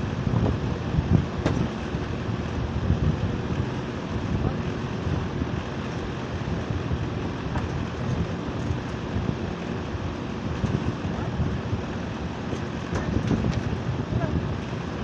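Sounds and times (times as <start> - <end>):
air conditioner unit running: 0.0 - 15.0.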